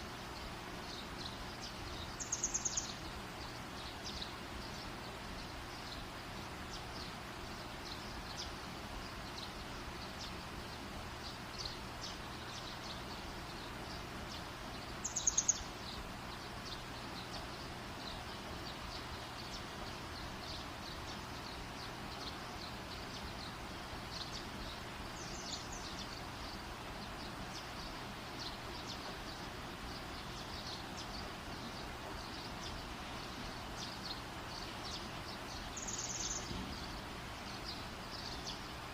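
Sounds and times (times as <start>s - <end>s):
steady hiss: 0.0s - 38.9s.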